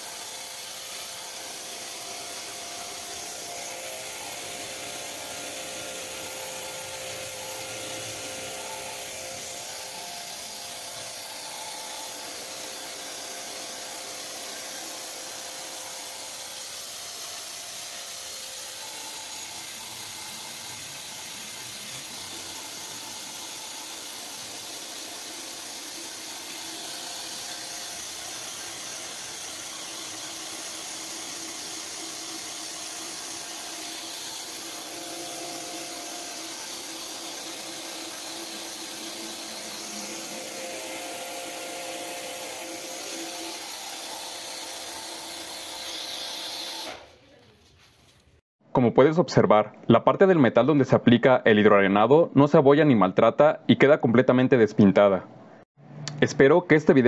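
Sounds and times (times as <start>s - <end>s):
pressure washer jet hissing on metal: 0.0s - 47.4s.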